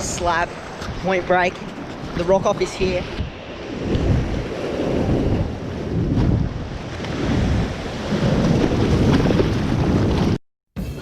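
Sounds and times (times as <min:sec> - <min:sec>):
surf against rocks: 0:00.0 - 0:10.4
wind buffeting microphone: 0:00.0 - 0:11.0.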